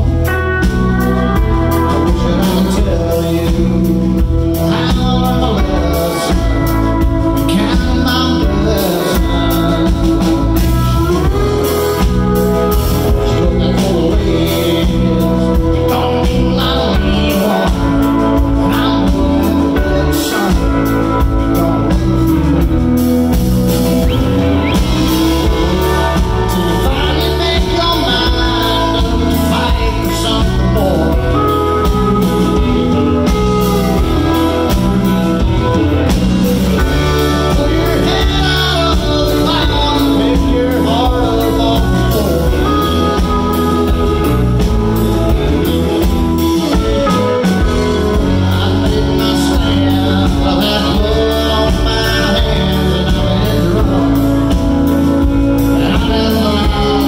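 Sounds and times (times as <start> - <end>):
country-rock band playing: 0.0 - 57.0.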